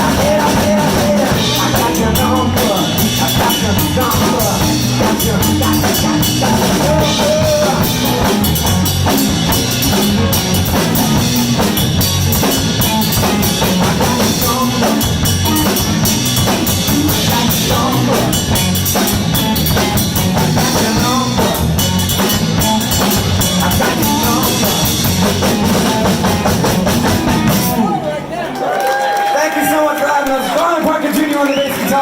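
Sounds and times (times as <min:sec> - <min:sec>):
bass guitar: 0:00.0 - 0:28.4
drum kit beat: 0:00.0 - 0:28.4
lead guitar: 0:00.0 - 0:28.5.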